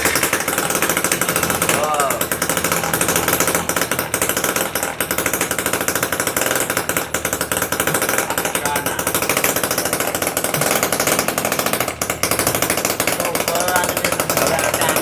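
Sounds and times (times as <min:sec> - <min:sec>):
small two-stroke engine running: 0:00.0 - 0:15.0.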